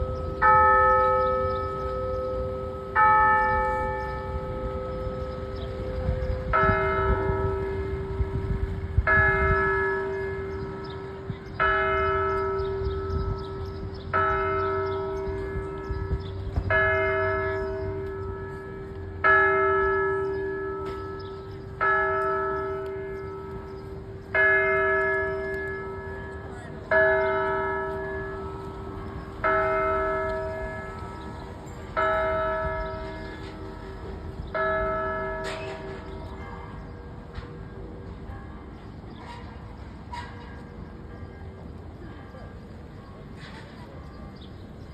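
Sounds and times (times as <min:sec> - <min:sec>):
church bell tolling: 0:00.0 - 0:44.1.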